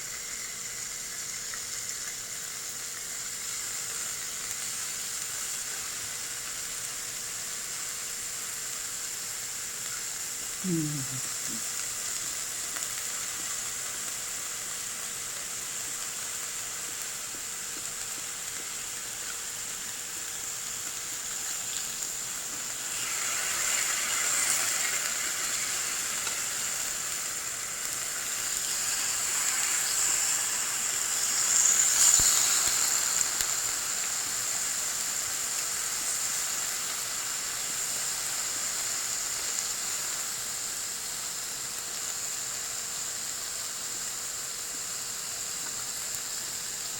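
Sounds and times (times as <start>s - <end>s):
beef sizzling on hot iron plate: 0.0s - 46.9s.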